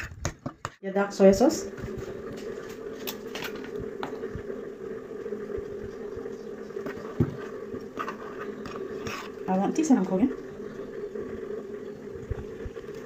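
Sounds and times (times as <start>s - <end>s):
steady low hum: 0.8s - 13.0s.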